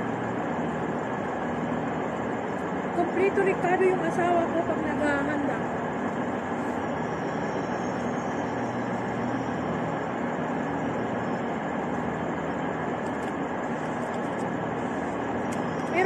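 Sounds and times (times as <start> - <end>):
station hall hum and rumble: 0.0 - 16.0.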